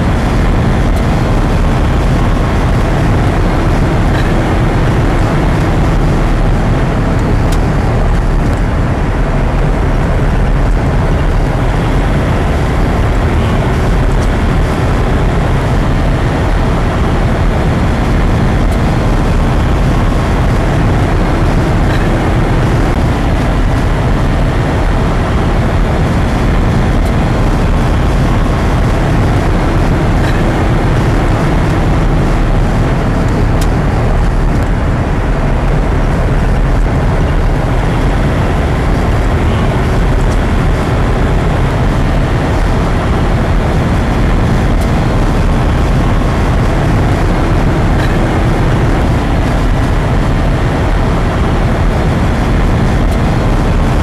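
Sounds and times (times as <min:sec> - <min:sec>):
vehicle cabin road noise: 0:00.0 - 0:54.0
wind noise: 0:00.0 - 0:54.0.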